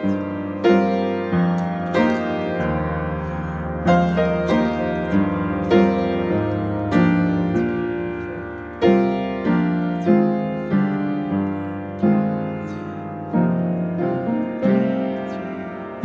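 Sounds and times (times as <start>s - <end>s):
upright piano playing hymn chords: 0.0s - 16.0s.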